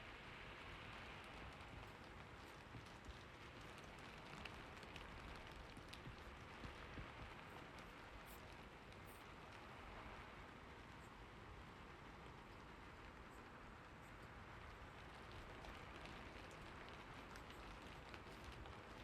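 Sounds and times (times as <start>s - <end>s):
faint steady rain: 0.0s - 19.0s
raindrops ticking: 0.7s - 19.0s.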